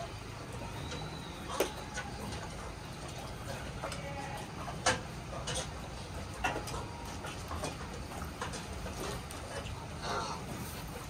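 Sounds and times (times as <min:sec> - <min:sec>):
metallic clicks on feeding bowls: 0:00.0 - 0:11.0.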